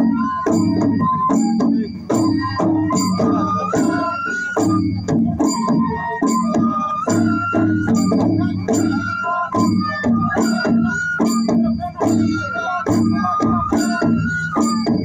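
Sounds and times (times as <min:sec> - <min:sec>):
barrel drums beating: 0:00.0 - 0:15.0
wavering held melody: 0:00.0 - 0:15.0.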